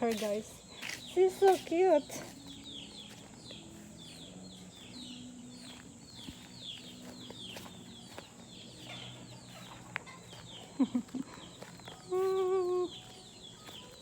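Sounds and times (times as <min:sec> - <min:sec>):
chicks peeping: 0:00.1 - 0:14.0
chickens clucking: 0:00.7 - 0:14.0.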